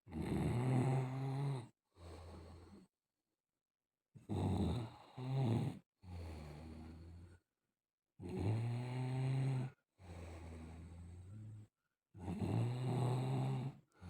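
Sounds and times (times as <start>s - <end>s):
man snoring: 0.1s - 2.9s, 4.2s - 7.4s, 8.2s - 14.0s.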